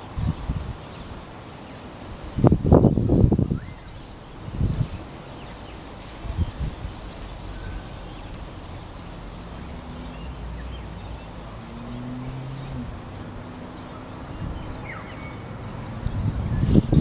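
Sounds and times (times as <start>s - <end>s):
low wind buffeting: 0.0s - 17.0s.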